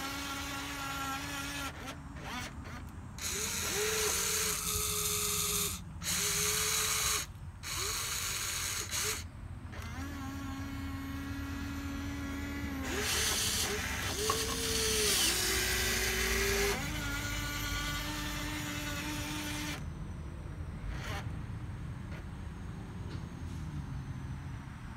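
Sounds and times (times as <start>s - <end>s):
small electric motors whining: 0.0s - 22.4s.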